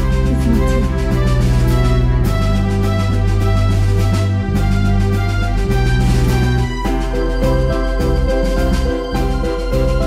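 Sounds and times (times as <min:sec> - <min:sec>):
pulsing bass line: 0:00.0 - 0:10.0
sustained pitched notes: 0:00.0 - 0:10.0.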